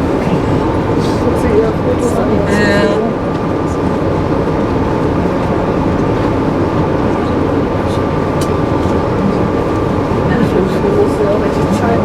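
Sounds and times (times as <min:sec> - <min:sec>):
train car rumbling on rails: 0:00.0 - 0:12.0.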